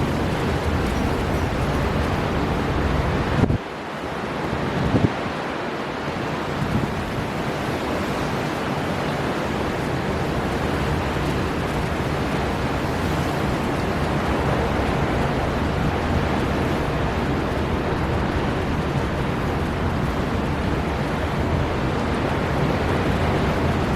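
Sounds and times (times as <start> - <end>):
storm wind blowing: 0.0 - 23.9
waves and surf: 0.0 - 23.9.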